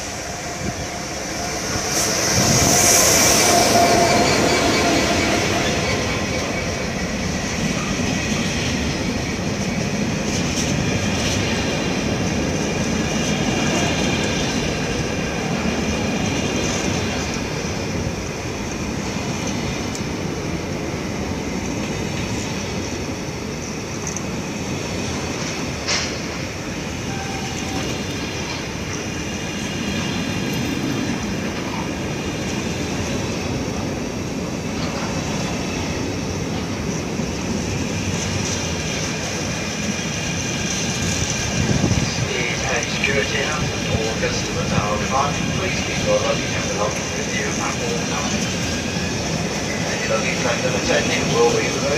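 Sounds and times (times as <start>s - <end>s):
train rumbling: 0.0s - 51.9s.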